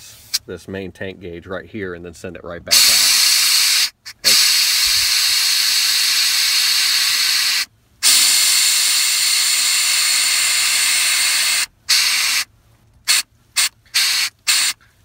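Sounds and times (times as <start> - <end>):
compressed air hissing: 0.0 - 0.5, 2.7 - 15.0
short air spurts: 0.0 - 0.5, 2.7 - 15.0.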